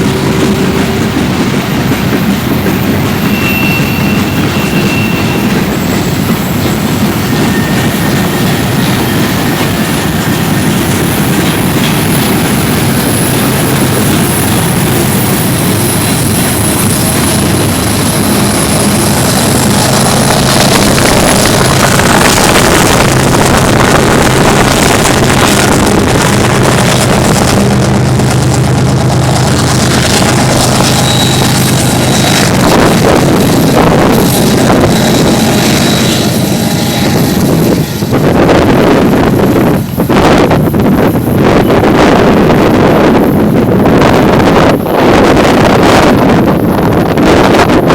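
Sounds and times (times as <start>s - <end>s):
freight train wheels on rail: 0.0s - 47.9s.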